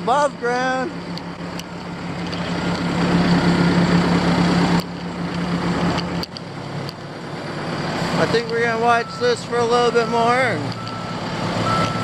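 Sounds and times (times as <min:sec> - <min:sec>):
compactor roller engine running: 0:00.0 - 0:12.0.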